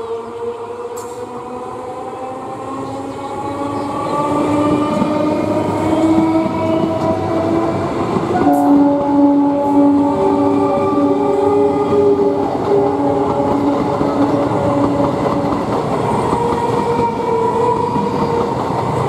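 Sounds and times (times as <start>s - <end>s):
wheels rumbling on rails: 0.0s - 19.0s
train horn tone: 2.8s - 18.4s.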